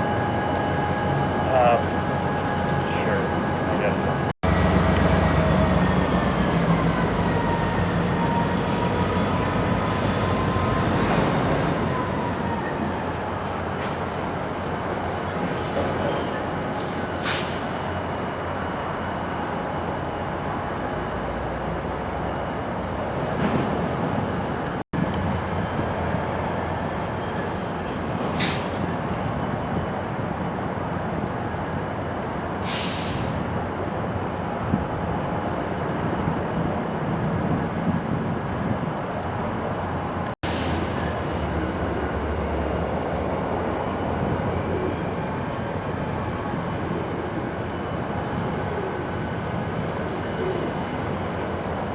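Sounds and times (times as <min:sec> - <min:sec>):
train wheels squealing: 0:00.0 - 0:35.9, 0:40.0 - 0:51.9
freight train rumbling: 0:00.0 - 0:51.9.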